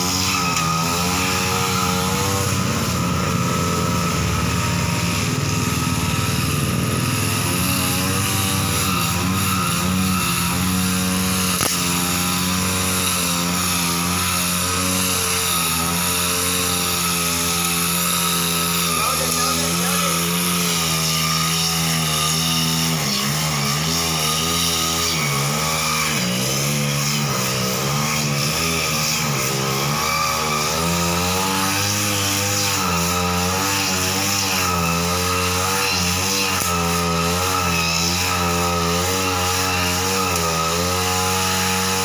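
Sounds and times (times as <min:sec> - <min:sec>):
brush cutter engine cutting grass: 0:00.0 - 0:42.0.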